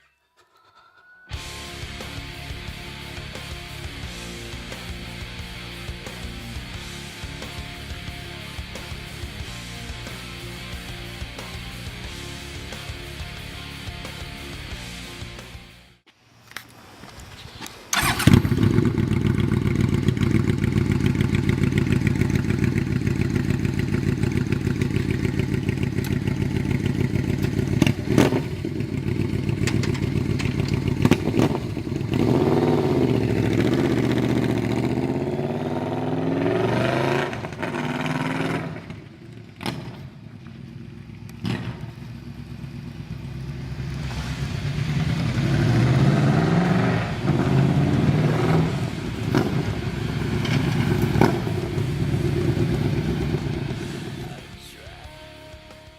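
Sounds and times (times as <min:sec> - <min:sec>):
motorcycle engine idling and revving: 0:01.4 - 0:15.4, 0:17.9 - 0:55.9.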